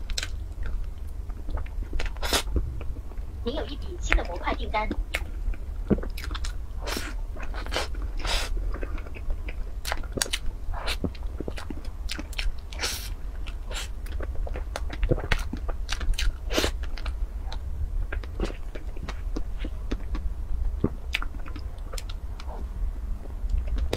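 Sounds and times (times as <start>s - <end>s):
person chewing cake: 0.0s - 3.3s, 4.9s - 22.7s, 23.4s - 23.9s
steady low hum: 0.0s - 23.9s.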